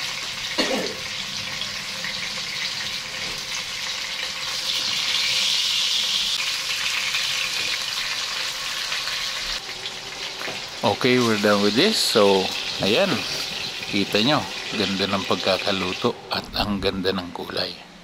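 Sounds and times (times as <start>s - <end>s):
meat sizzling in a pan: 0.0s - 16.1s.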